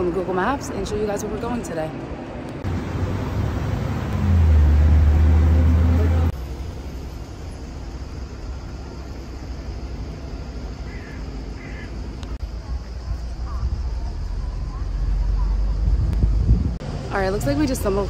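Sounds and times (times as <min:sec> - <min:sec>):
traffic rumble: 0:00.0 - 0:18.0
low engine hum close by: 0:02.5 - 0:11.5, 0:12.1 - 0:18.0.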